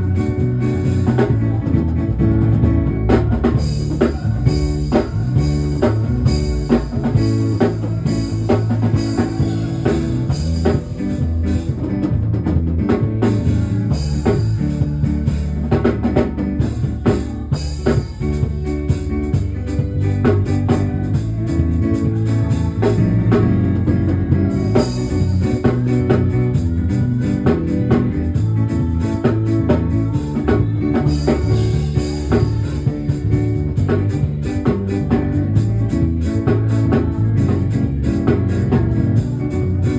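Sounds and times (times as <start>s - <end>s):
bass and guitar: 0.0s - 39.9s
drum kit beat: 0.0s - 39.9s.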